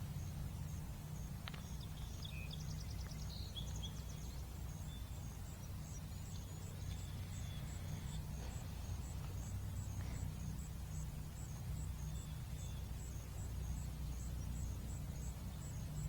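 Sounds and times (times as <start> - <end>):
low steady rumble: 0.0 - 16.0
small birds chirping: 0.6 - 16.0.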